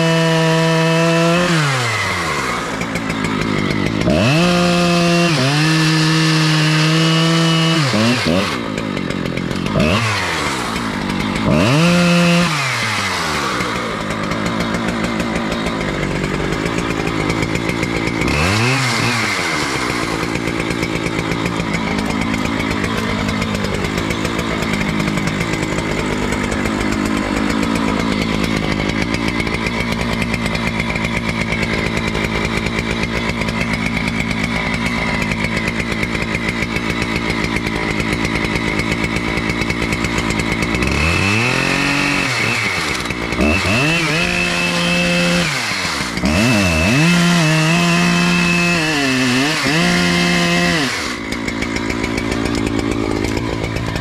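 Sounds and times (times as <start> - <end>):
chainsaw revving and idling: 0.0 - 54.0.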